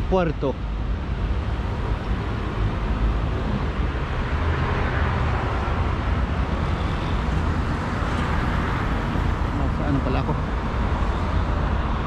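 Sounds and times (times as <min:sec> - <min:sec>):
passing cars rumble and hiss: 0:00.0 - 0:12.0.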